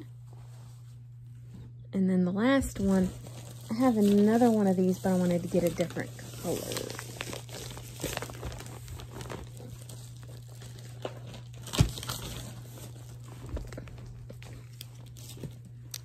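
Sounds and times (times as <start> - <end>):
steady low hum: 0.0 - 16.0
packaging crinkling: 2.7 - 16.0.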